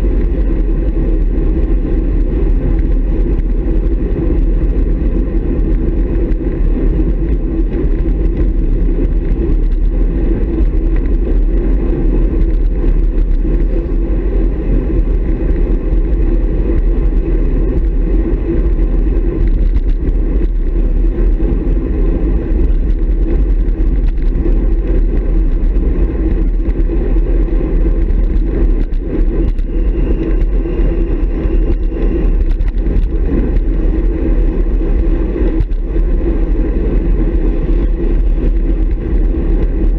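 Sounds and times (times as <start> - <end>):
tyres rumbling on tarmac: 0.0 - 39.9
wind noise on microphone: 0.0 - 39.9.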